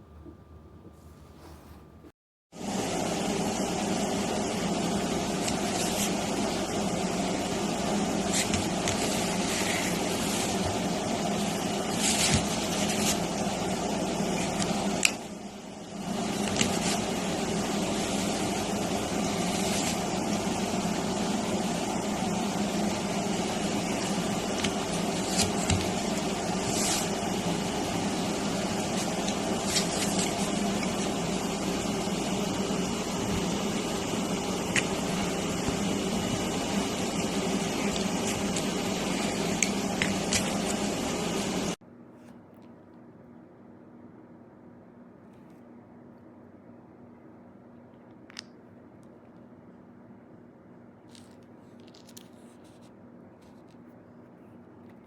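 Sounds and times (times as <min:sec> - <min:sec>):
steady machine hum: 0:00.0 - 0:47.8.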